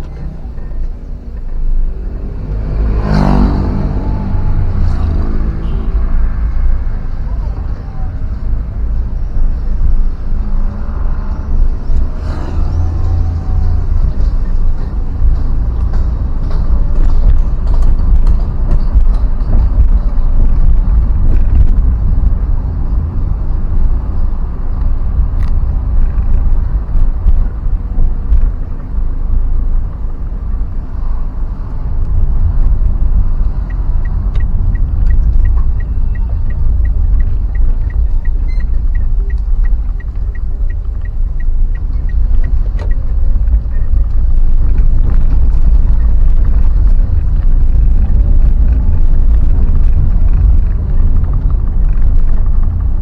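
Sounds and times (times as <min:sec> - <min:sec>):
road vehicle rumble: 0:00.0 - 0:53.0
wind and road noise: 0:00.0 - 0:53.0
faint even ticking: 0:05.0 - 0:53.0.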